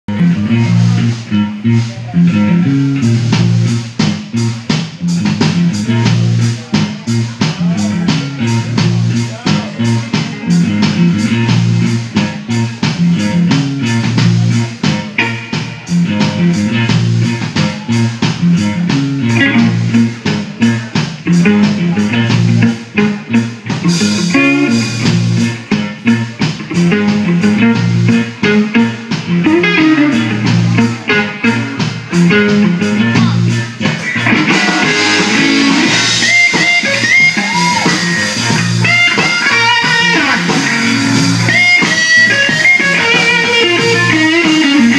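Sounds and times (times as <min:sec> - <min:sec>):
blues band playing: 0:00.1 - 0:44.9
electric guitar lead with bent notes: 0:00.1 - 0:44.9.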